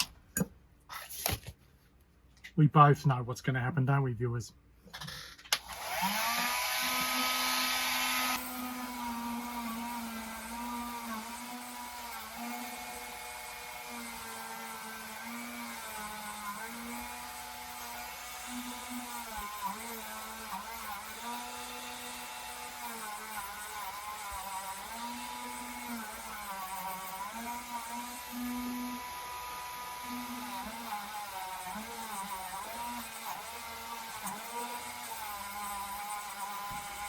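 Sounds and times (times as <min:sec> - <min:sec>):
rotary tool whining into metal: 0:05.0 - 0:37.0.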